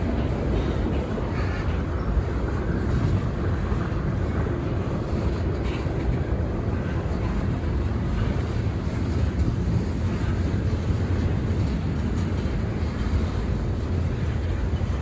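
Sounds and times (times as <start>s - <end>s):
freight train rumbling past: 0.0s - 15.0s
wind buffeting microphone: 0.0s - 15.0s.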